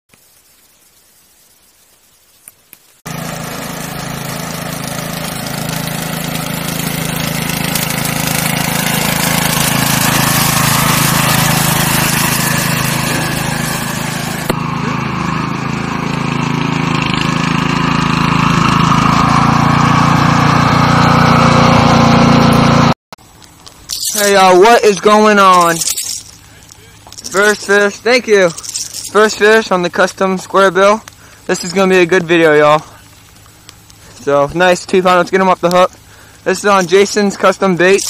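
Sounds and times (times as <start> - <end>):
riding lawn mower engine: 3.1 - 38.0.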